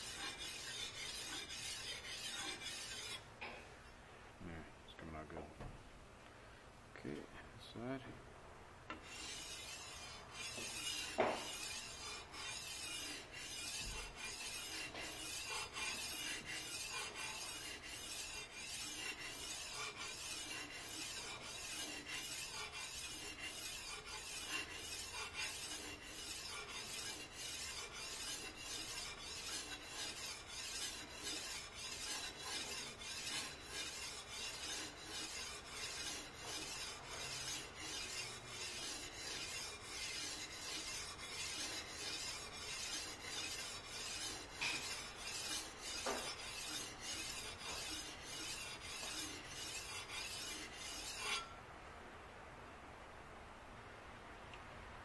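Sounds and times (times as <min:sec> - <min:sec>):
blade scraping on water stone: 0:00.0 - 0:03.3, 0:08.9 - 0:51.5.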